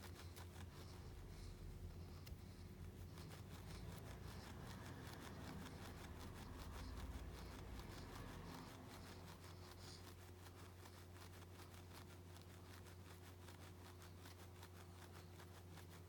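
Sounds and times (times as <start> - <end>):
small irregular clicks: 0.0 - 16.0
steady low hum: 0.0 - 16.0.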